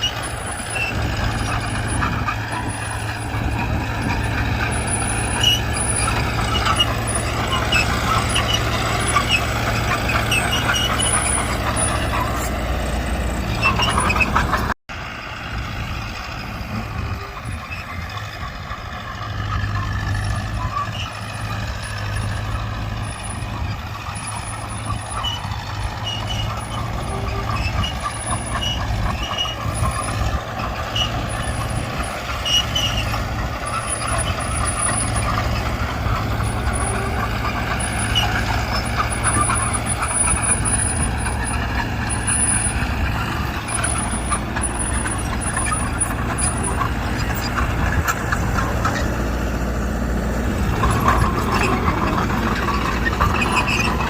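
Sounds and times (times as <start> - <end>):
bulldozer diesel engine running: 0.0 - 54.0
dump truck engine running: 0.0 - 54.0.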